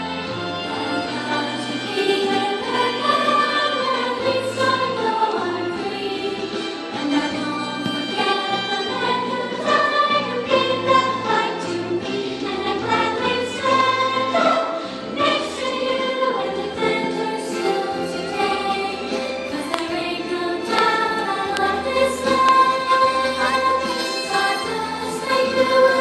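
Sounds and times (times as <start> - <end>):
group of voices singing: 0.0 - 26.0
instrumental backing with bass: 0.0 - 26.0.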